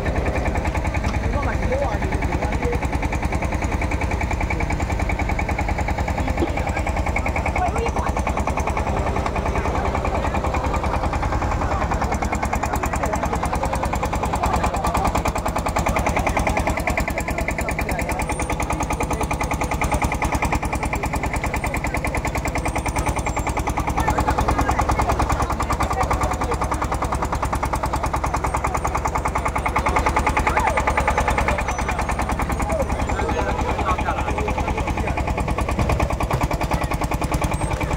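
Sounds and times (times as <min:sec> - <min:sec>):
engine chugging: 0:00.0 - 0:37.9.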